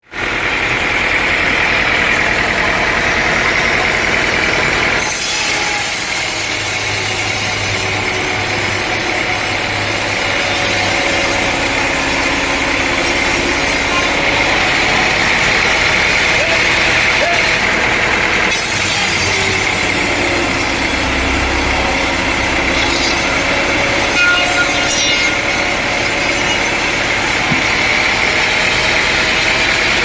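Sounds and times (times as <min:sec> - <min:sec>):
sawmill machinery running: 0:00.0 - 0:30.0.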